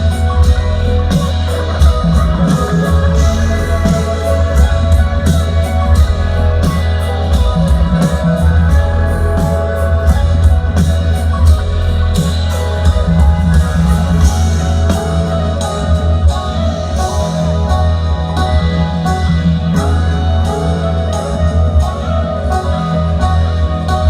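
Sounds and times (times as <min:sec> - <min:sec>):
steady beat: 0:00.0 - 0:23.3
heavy sustained bass: 0:00.0 - 0:24.0
live electronic music: 0:00.0 - 0:24.0
plucked guitar-like melody: 0:00.0 - 0:24.0.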